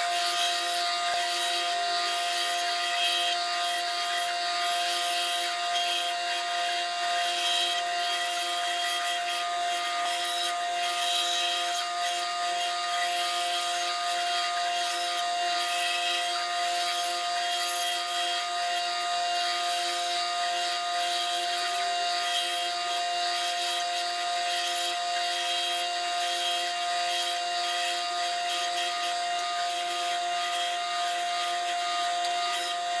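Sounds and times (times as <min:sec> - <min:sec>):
power saw motor: 0:00.0 - 0:33.0.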